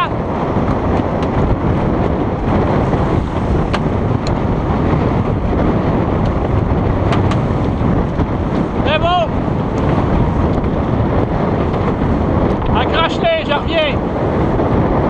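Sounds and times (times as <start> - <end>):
water rushing along hulls: 0.0 - 15.0
wind buffeting microphone: 0.0 - 15.0.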